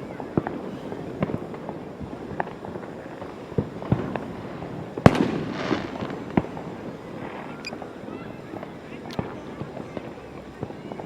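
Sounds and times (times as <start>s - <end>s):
fireworks banging: 0.0s - 11.0s
fireworks crackling: 0.0s - 11.0s.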